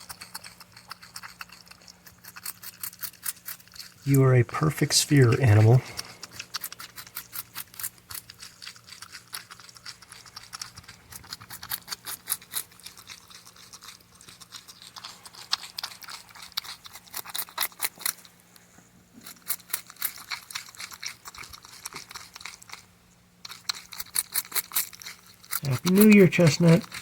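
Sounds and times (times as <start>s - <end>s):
porcupine chewing and gnawing: 0.0s - 27.0s.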